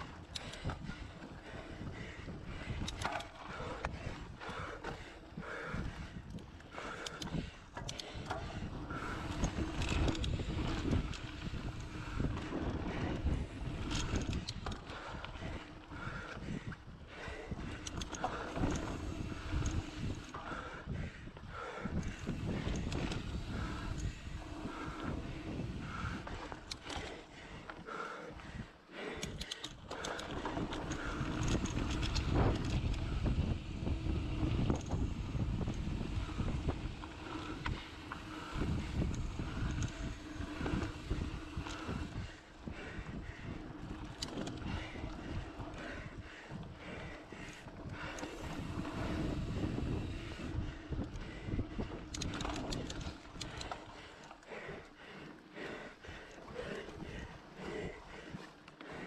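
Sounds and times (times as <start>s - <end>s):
wind on microphone: 0.0s - 26.8s, 29.2s - 54.0s
bike clicking and rattling: 0.0s - 59.0s.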